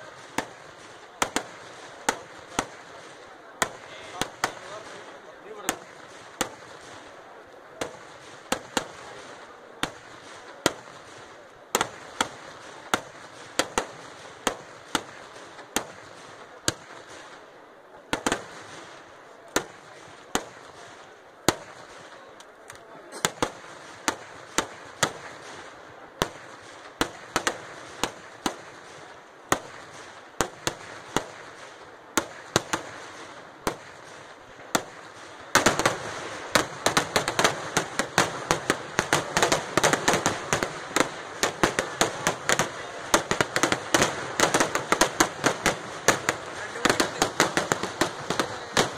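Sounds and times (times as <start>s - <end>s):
fireworks bangs: 0.0s - 48.9s
steady background noise: 0.0s - 48.9s.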